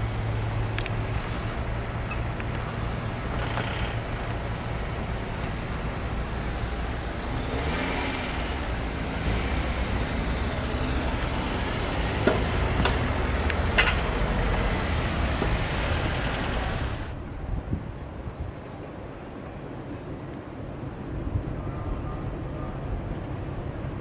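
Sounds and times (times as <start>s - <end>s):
cars on the road: 0.0s - 24.0s.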